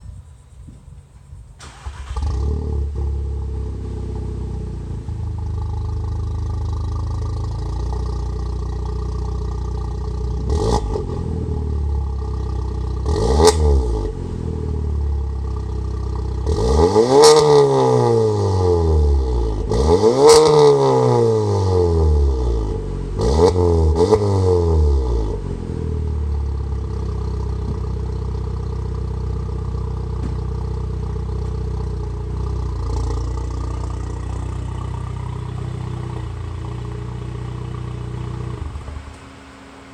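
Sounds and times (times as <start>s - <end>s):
car engine idling and revving: 1.6s - 39.9s.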